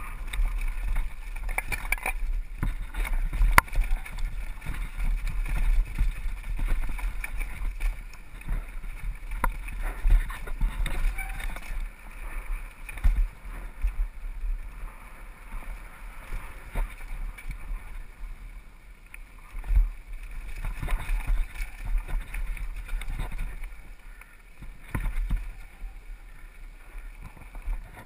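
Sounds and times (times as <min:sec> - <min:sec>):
wind on microphone: 0:00.0 - 0:18.4, 0:19.4 - 0:28.0
bike rattling: 0:00.0 - 0:28.0
tyres rolling over dirt and rocks: 0:00.0 - 0:28.0.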